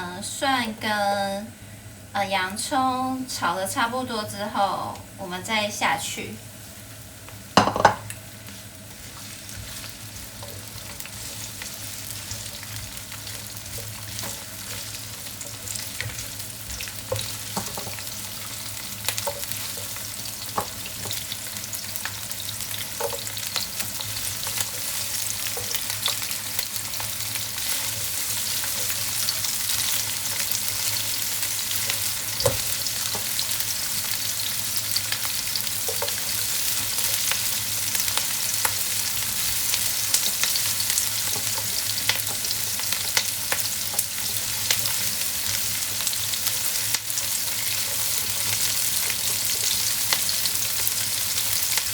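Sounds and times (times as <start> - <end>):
onion sizzling in oil: 1.8 - 51.9.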